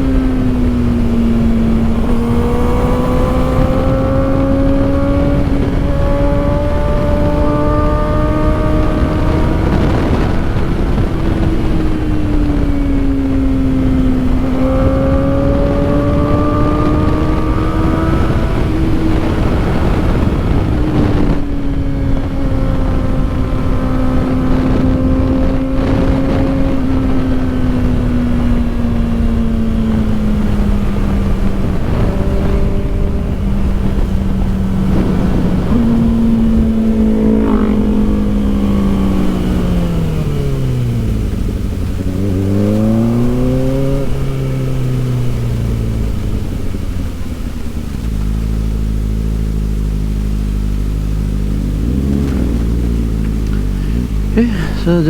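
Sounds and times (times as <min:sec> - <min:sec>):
motorcycle engine running at speed: 0:00.0 - 0:55.0
wind rushing on microphone: 0:00.0 - 0:55.0.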